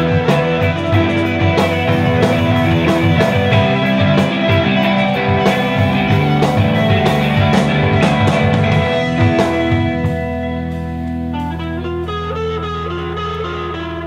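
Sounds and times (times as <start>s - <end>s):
drum kit beat: 0.0s - 12.1s
guitars playing: 0.0s - 14.0s.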